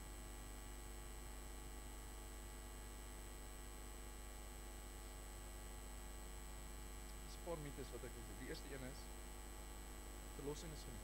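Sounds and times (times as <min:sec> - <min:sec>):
faint high whine: 0:00.0 - 0:11.0
low electrical mains hum: 0:00.0 - 0:11.0.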